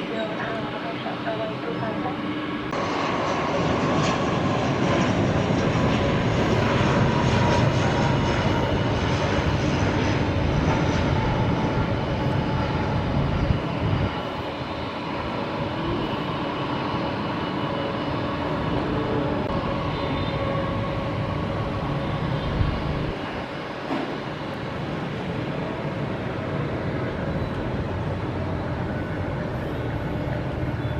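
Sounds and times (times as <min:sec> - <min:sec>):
jet engines rushing and whining: 0:00.0 - 0:30.9.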